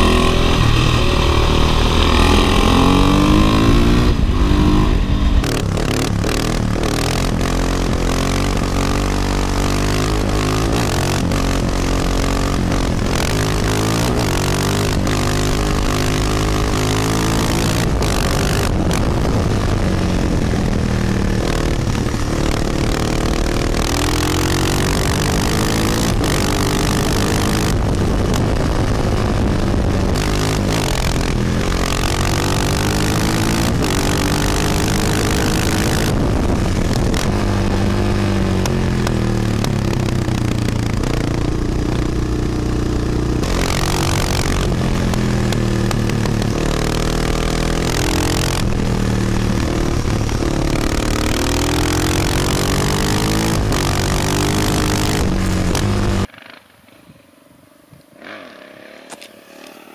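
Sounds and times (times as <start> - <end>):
wind noise on microphone: 0.0 - 56.3
motorcycle engine revving: 0.0 - 59.9.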